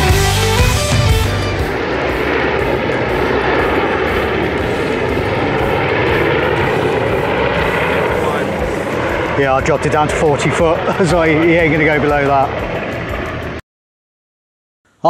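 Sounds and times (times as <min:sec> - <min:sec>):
drone propellers whirring: 0:00.0 - 0:13.6.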